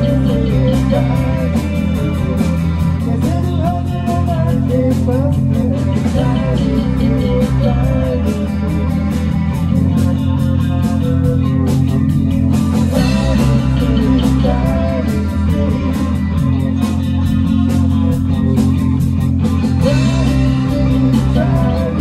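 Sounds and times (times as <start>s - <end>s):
electric guitar lead line: 0.0s - 22.0s
rock band playing live: 0.0s - 22.0s.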